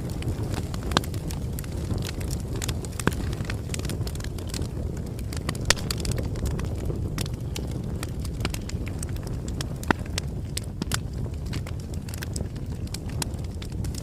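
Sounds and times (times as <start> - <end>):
bonfire crackling: 0.0 - 14.0.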